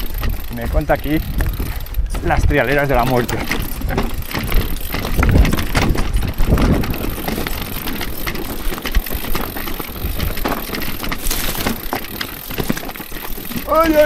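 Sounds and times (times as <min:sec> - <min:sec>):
bike knocking and rattling: 0:00.0 - 0:14.0
tyres crunching over stones: 0:00.0 - 0:14.0.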